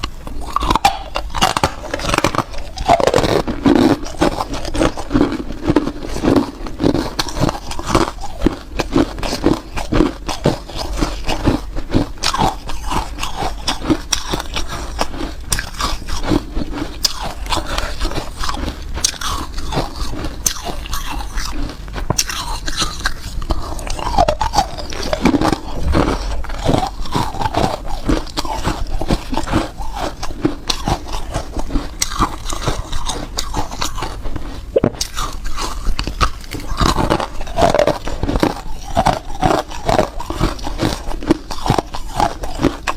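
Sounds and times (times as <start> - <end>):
ice crunching between teeth: 0.0 - 42.9.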